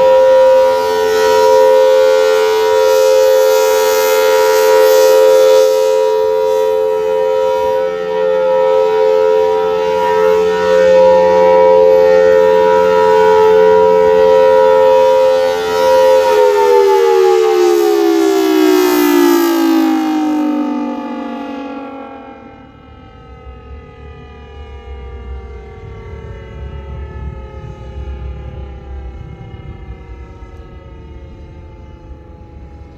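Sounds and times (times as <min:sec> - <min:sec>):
two-tone siren winding down: 0:00.0 - 0:32.9.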